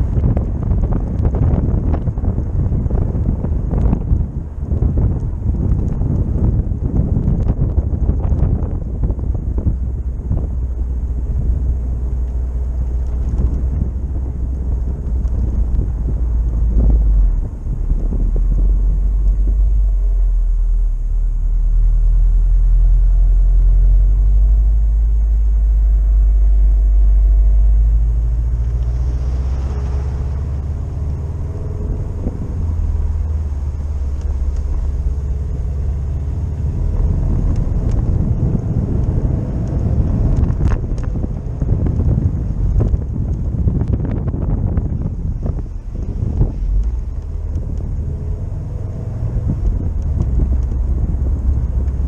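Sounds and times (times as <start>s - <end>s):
car engine and road noise rumble: 0.0s - 52.0s
rough crackling noise: 0.0s - 52.0s.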